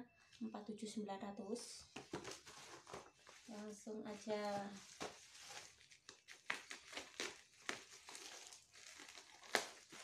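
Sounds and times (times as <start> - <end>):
plastic wrapping crinkling: 2.0 - 10.0.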